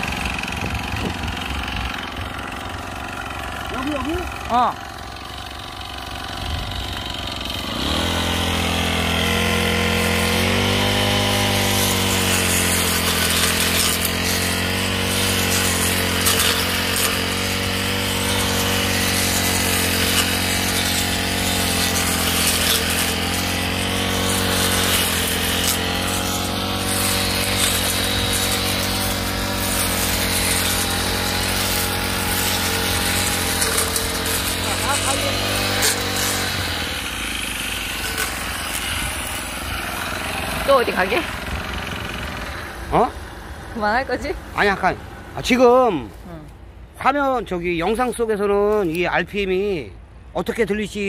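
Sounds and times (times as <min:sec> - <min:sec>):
brush cutter cutting weeds: 0:00.0 - 0:47.0, 0:47.6 - 0:49.4.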